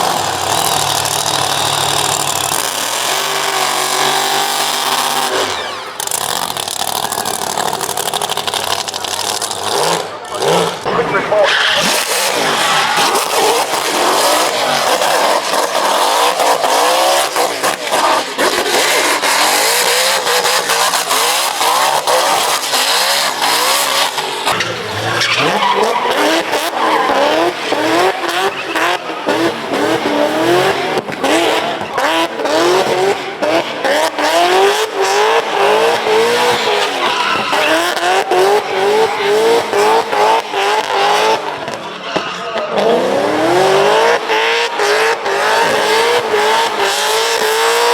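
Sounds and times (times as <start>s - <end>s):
tyres screeching: 0.0s - 32.2s, 35.0s - 47.9s
car engine revving: 0.0s - 47.9s.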